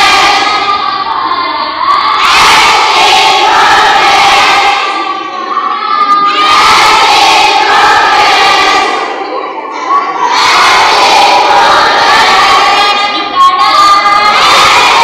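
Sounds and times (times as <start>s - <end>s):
students shouting and cheering: 0.0s - 15.0s.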